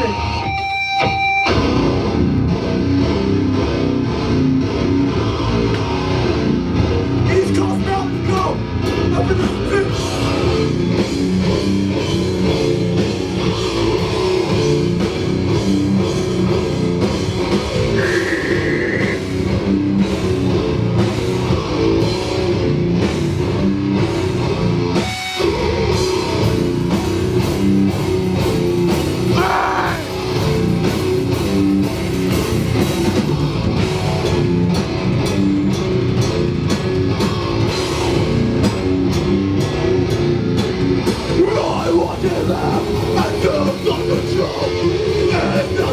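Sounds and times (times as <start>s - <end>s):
distorted electric guitar: 0.0s - 45.9s
drum kit: 0.0s - 45.9s
heavy live band: 0.0s - 45.9s.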